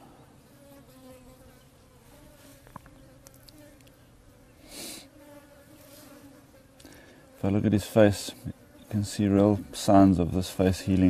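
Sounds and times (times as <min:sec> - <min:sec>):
flies buzzing faintly: 0:00.0 - 0:11.0.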